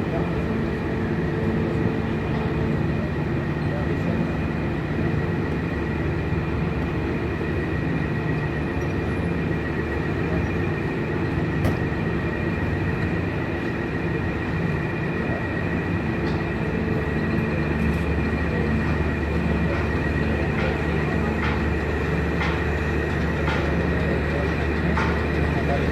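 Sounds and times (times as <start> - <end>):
ship machinery droning: 0.0 - 25.9.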